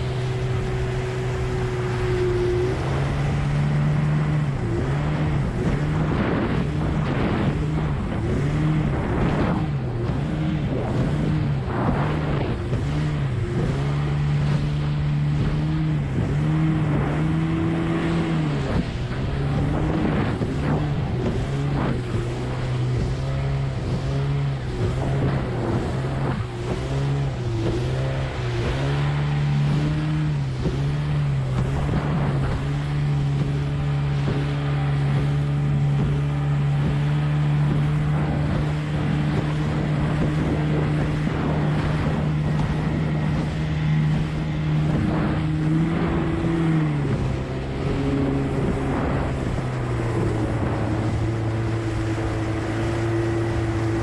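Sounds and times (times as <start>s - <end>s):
outboard motor running: 0.0s - 54.0s
water slapping hull: 0.0s - 54.0s.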